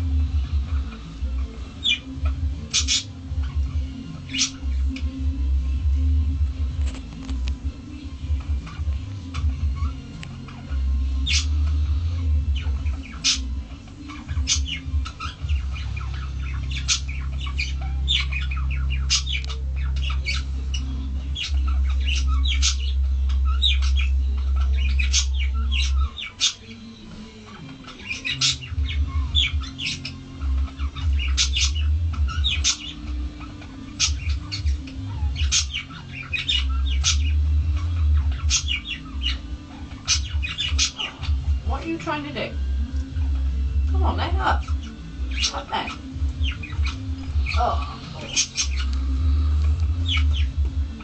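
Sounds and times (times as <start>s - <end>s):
small animal squeaking: 0.6s - 5.1s, 8.4s - 51.0s.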